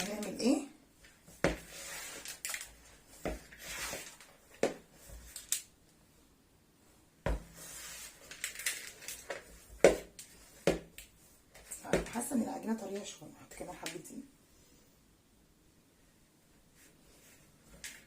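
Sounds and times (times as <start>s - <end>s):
soft rustling and mixing: 0.0s - 18.0s.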